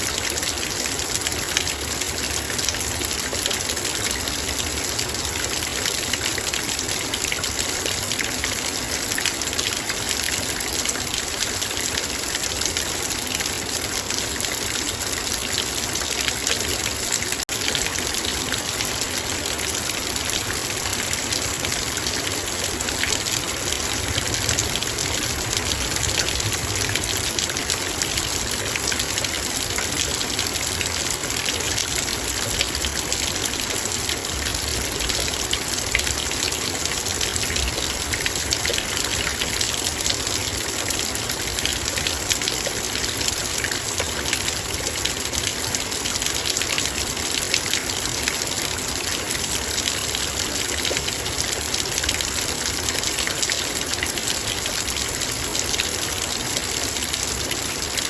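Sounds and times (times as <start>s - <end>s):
heavy rain on a metal bowl: 0.0s - 58.0s.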